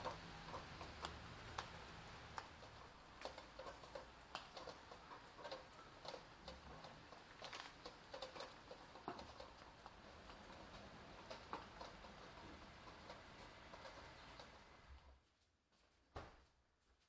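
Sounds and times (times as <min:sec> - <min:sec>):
rain dripping ticks: 0:00.0 - 0:15.1
soft hiss of rain: 0:00.0 - 0:15.9.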